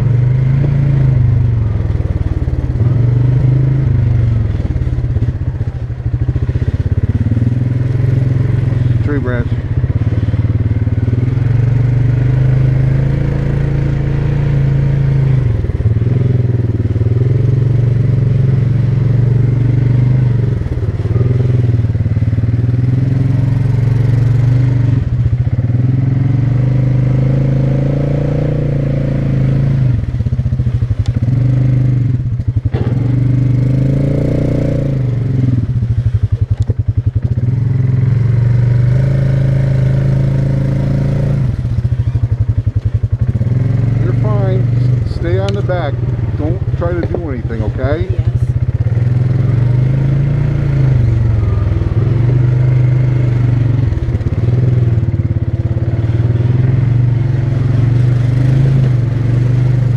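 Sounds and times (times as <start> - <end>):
atv engine under throttle: 0.0 - 59.9.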